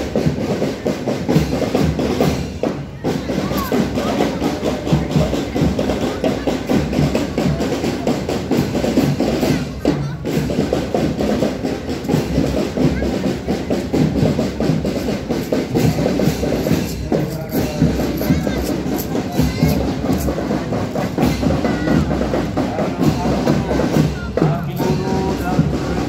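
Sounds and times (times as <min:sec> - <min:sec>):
marching drum band playing: 0:00.0 - 0:26.0
voices: 0:00.0 - 0:26.0.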